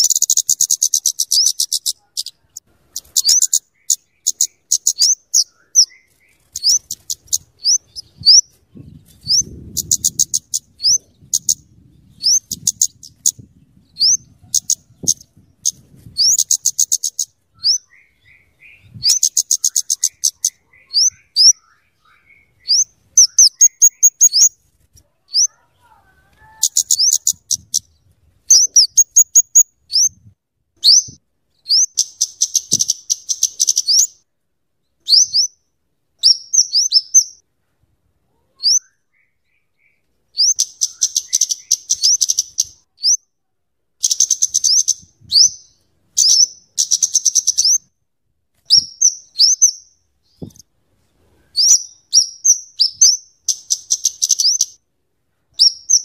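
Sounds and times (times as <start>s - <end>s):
bird calling and chattering: 0.0s - 24.5s, 25.2s - 30.2s, 30.8s - 34.2s, 38.4s - 43.2s, 44.0s - 47.9s, 48.7s - 50.6s, 51.5s - 54.8s, 55.6s - 56.0s.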